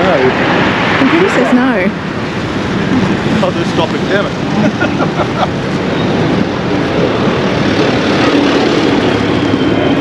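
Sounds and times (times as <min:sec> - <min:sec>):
airplane engine drone: 0:00.0 - 0:10.0
busy road traffic: 0:00.0 - 0:10.0.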